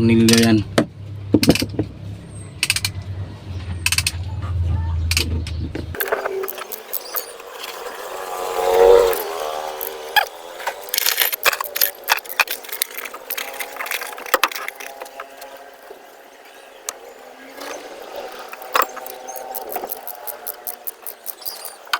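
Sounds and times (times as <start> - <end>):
passing vehicle engine hum: 0.0 - 21.9.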